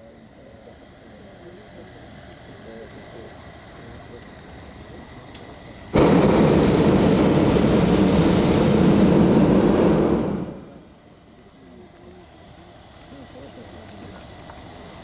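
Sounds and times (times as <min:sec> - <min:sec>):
propane burner roaring: 0:01.0 - 0:15.0.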